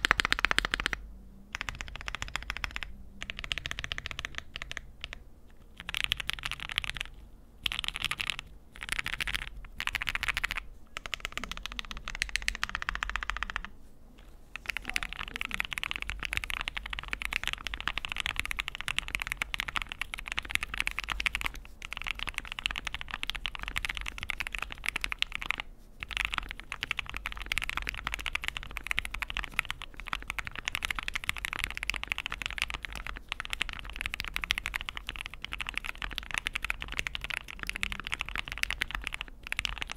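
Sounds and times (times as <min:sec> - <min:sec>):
mechanical keyboard typing: 0:00.0 - 0:13.7, 0:14.6 - 0:39.9.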